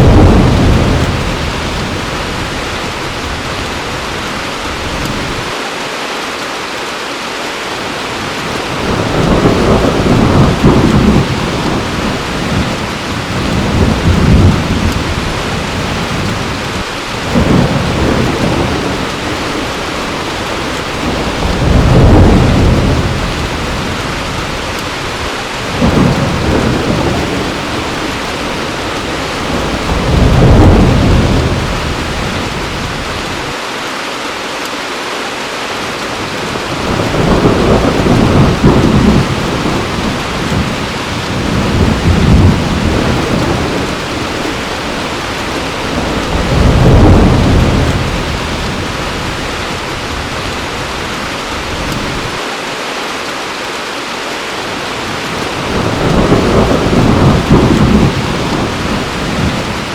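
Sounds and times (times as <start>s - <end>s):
thunder rumbling: 0.0s - 5.6s, 8.2s - 33.6s, 36.2s - 52.4s, 54.9s - 59.9s
heavy rain: 0.0s - 59.9s.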